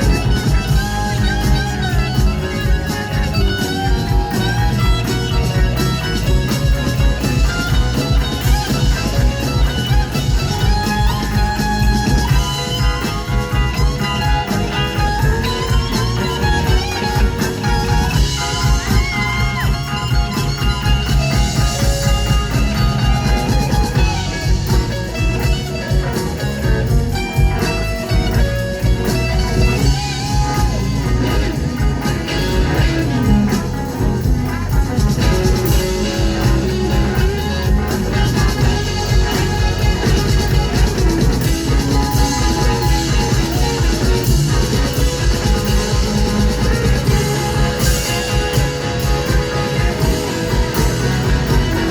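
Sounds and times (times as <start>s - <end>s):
blues band playing: 0.0s - 51.9s
electric guitar solo: 0.0s - 51.9s.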